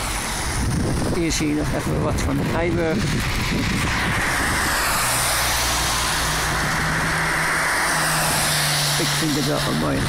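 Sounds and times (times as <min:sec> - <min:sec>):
road vehicle engine hum: 0:00.0 - 0:10.0.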